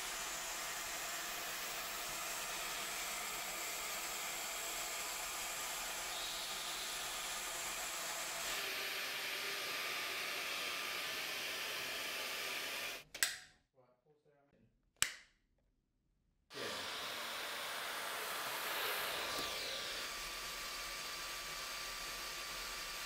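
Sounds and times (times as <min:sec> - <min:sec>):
cordless vacuum whirring: 0:00.0 - 0:13.0, 0:16.5 - 0:23.0.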